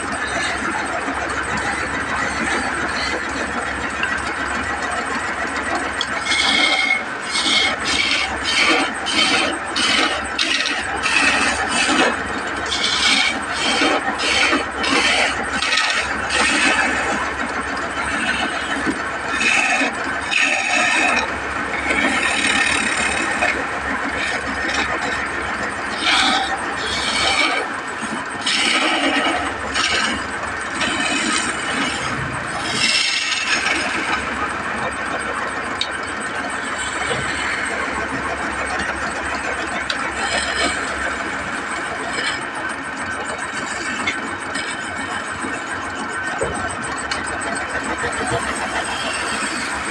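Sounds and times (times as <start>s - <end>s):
chisel shaving wood on lathe: 0.0s - 49.9s
lathe motor hum: 0.0s - 49.9s.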